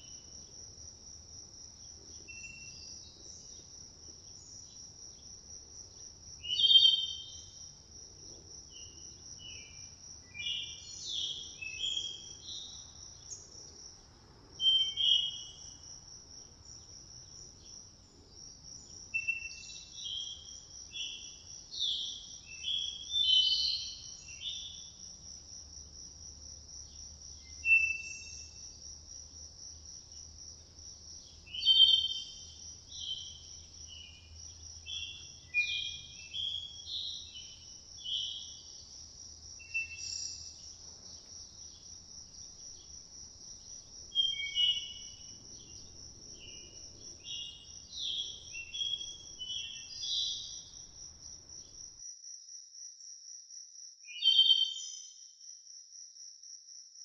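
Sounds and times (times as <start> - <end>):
high-pitched insect trill: 1.4 - 13.8, 14.6 - 53.3.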